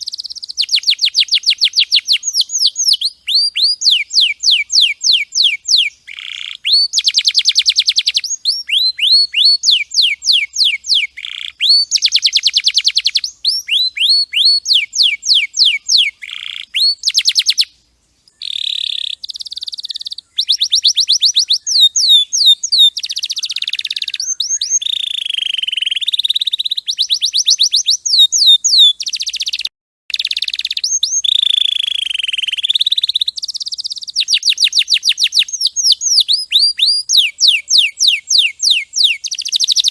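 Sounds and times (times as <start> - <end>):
canary singing rapid trills: 0.0 - 17.7, 18.4 - 39.9.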